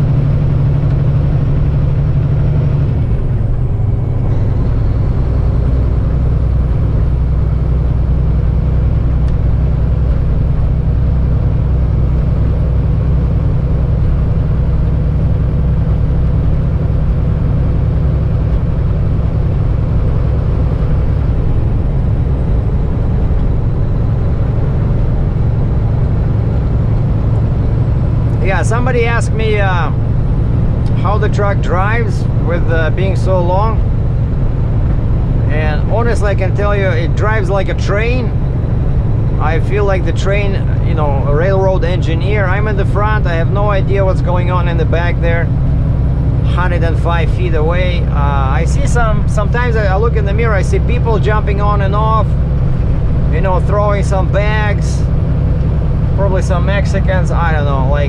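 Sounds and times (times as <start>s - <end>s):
road noise: 0.0s - 58.0s
truck diesel engine running: 0.0s - 58.0s.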